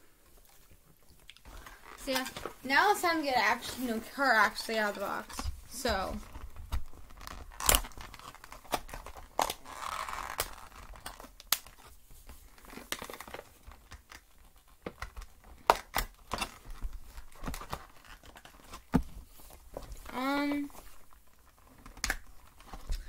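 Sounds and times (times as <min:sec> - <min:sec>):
plastic crinkling and rustling: 0:00.2 - 0:23.0.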